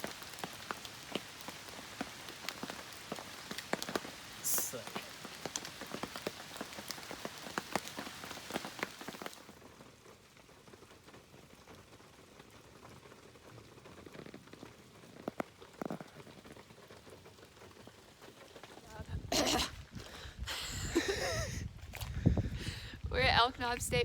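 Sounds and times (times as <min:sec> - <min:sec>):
rain falling steadily: 0:00.0 - 0:24.0.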